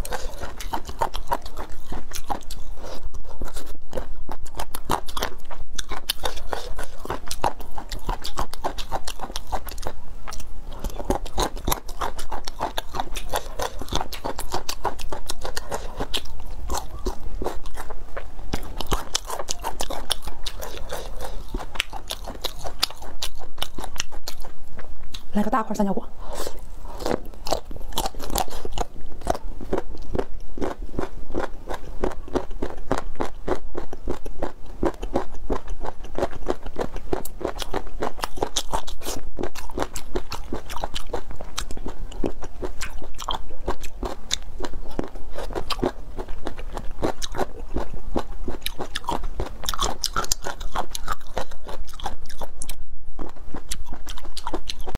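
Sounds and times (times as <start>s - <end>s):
person chewing crunchy cartilage: 0.0s - 54.9s.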